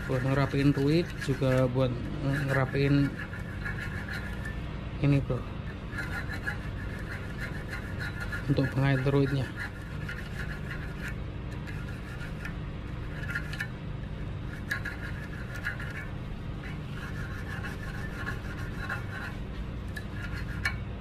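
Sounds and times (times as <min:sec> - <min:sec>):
hand file scraping metal: 0:00.0 - 0:04.6, 0:05.7 - 0:13.7, 0:14.5 - 0:20.9.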